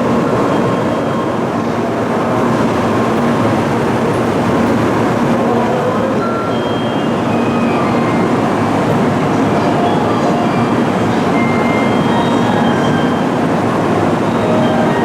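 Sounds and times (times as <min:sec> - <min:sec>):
train rushing noise: 0:00.0 - 0:15.0.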